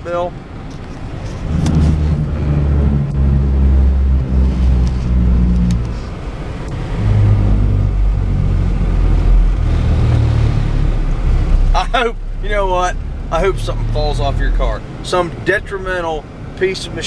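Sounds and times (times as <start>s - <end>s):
tyres on rumble strip: 0.0s - 17.0s.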